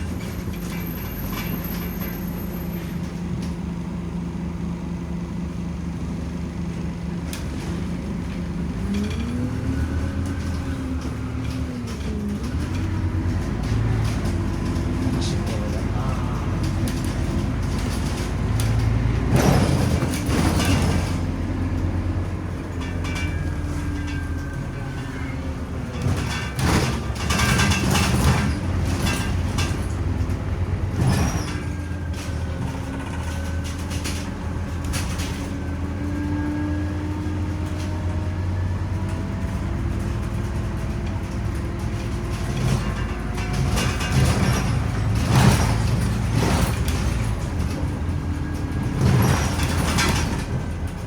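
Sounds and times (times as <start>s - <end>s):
bus engine humming: 0.0s - 51.0s.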